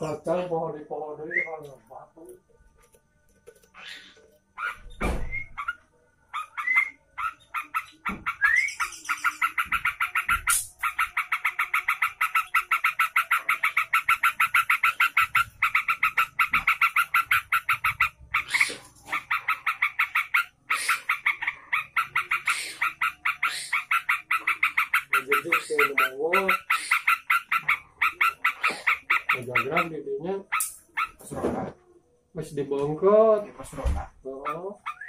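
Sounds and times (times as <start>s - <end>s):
bird chattering song: 3.7s - 31.3s, 34.3s - 35.0s.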